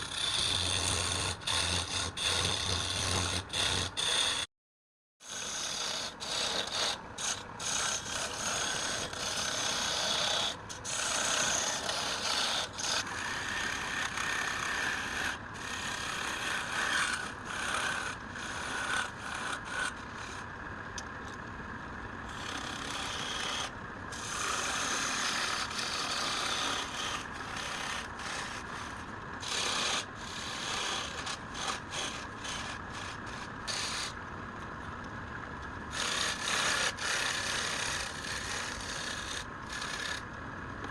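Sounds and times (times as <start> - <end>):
tool rasping on wood: 0.0 - 4.5, 5.2 - 20.4, 22.3 - 34.2, 35.9 - 40.2.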